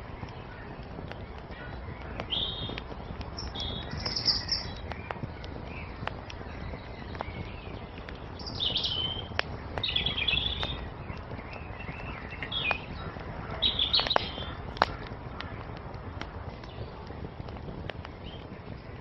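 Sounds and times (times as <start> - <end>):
songbirds chirping: 0.0 - 19.0
wood fire crackling and popping: 0.0 - 19.0.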